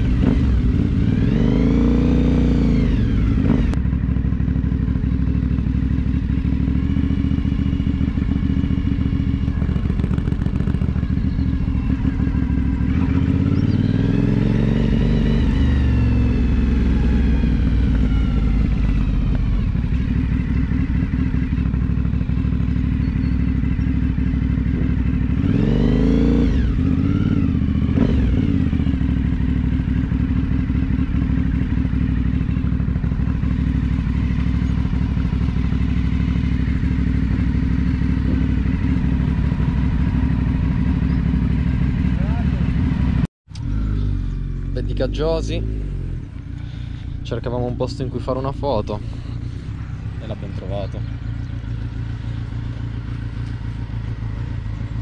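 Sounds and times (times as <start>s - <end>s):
motorcycle engine while riding: 0.0s - 55.0s.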